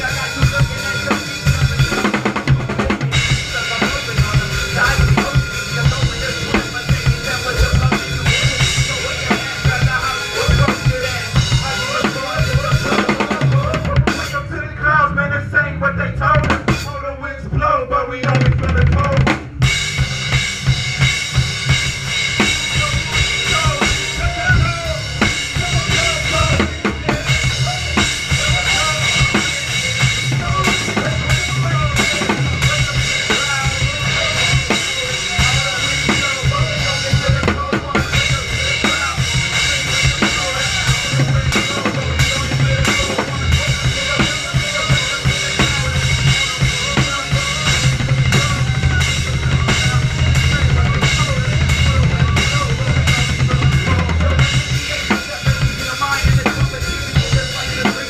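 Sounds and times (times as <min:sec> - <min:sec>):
drum kit playing fast beat: 0:00.0 - 0:14.6, 0:16.4 - 0:17.0, 0:18.2 - 0:58.0
recorded song playing: 0:00.0 - 0:19.2, 0:19.9 - 0:58.0.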